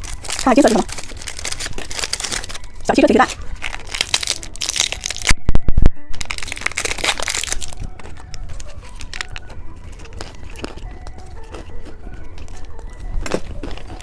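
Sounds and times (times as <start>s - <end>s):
candy wrapper crinkling: 0.0s - 14.0s.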